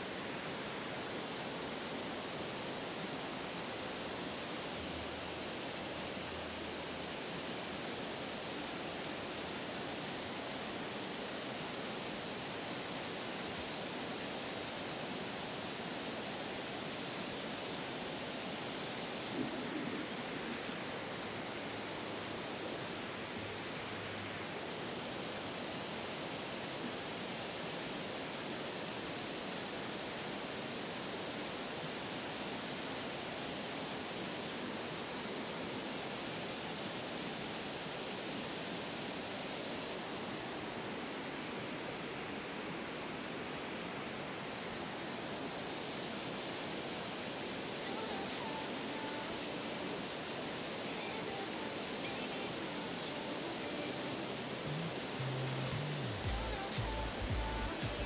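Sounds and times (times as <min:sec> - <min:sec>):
river water rushing: 0:00.0 - 0:32.0, 0:32.8 - 0:58.0.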